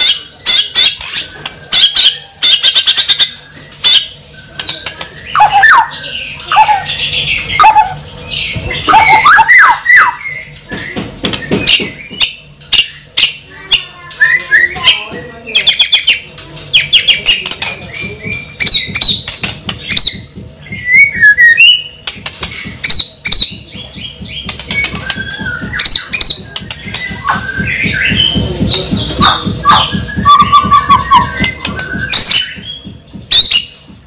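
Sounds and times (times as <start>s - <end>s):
bird chattering: 0.0s - 34.0s.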